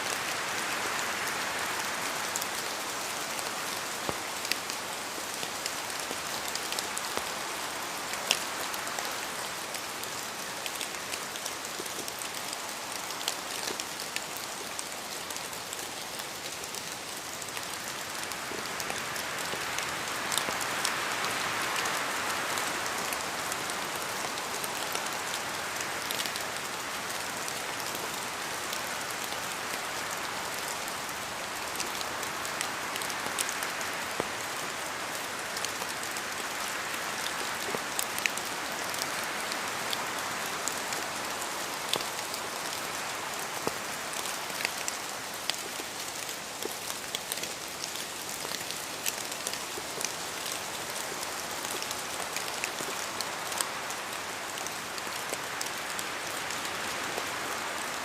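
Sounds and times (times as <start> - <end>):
raindrops ticking on a surface: 0.0 - 58.0
steady rain hiss: 0.0 - 58.0.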